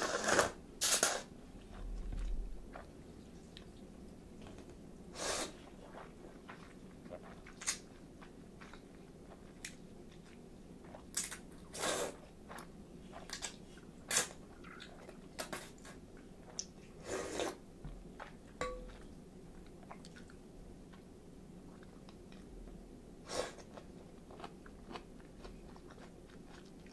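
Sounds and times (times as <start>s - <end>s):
slurping and chewing noodles: 0.0s - 21.1s, 23.3s - 26.9s.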